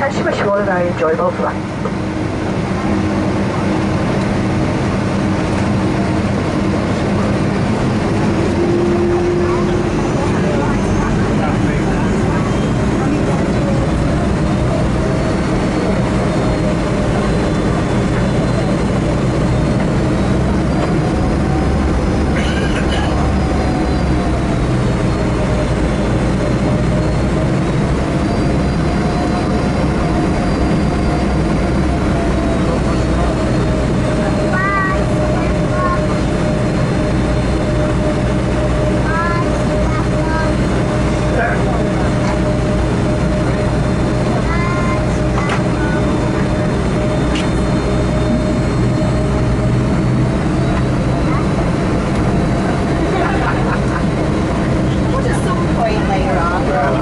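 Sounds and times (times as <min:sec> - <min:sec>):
airplane cabin jet engine rush: 0:00.0 - 0:57.0.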